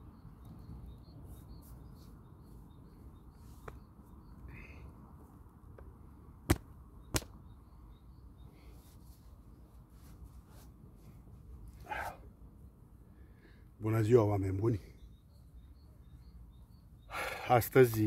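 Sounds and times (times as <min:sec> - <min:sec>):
faint bird chirps: 0:00.0 - 0:05.2, 0:06.9 - 0:12.3, 0:13.0 - 0:18.0.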